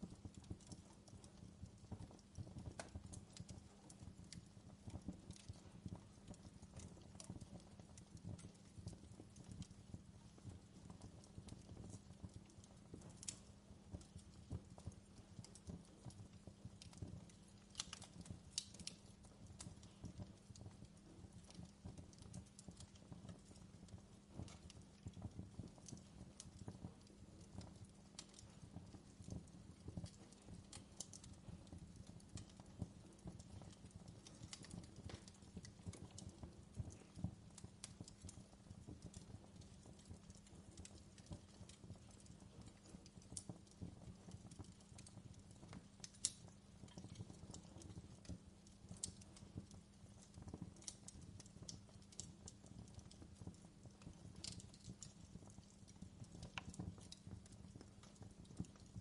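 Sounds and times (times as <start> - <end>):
fireplace crackling: 0.0 - 59.0.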